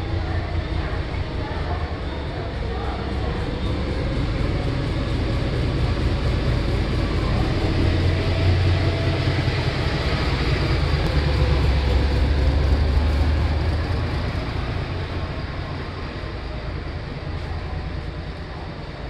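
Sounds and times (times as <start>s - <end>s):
diesel locomotive engine drone: 0.0s - 19.0s
train coaches rolling by: 0.0s - 19.0s.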